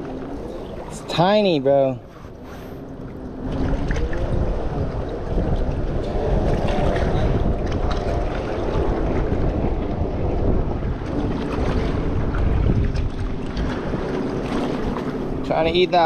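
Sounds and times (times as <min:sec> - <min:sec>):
water lapping: 0:00.0 - 0:16.0
wind buffeting microphone: 0:00.0 - 0:16.0.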